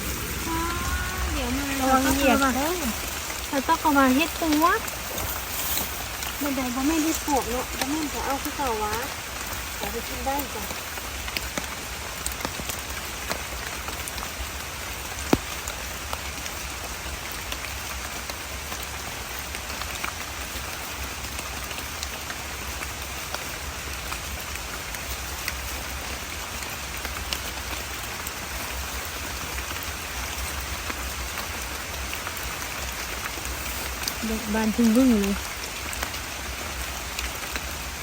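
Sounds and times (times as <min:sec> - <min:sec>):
raindrops ticking: 0:00.0 - 0:38.0
steady rain falling: 0:00.0 - 0:38.0.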